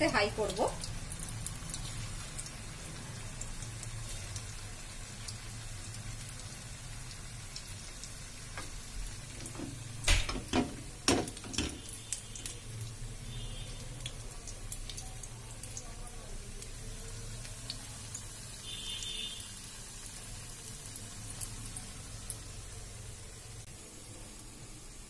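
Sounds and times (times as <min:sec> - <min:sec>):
patties sizzling in oil: 0:00.0 - 0:25.0.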